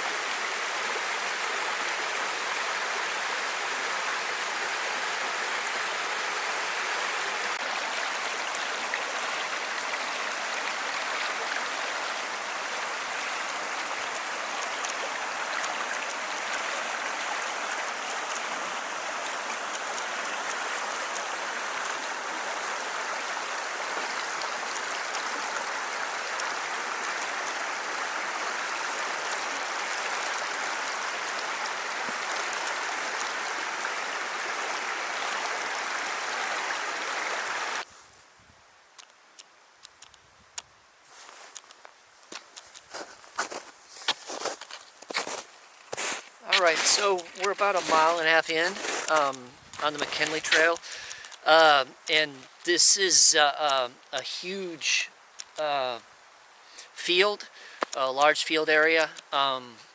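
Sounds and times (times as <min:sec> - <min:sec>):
stream water rushing: 0:00.0 - 0:37.9, 0:41.0 - 0:59.9.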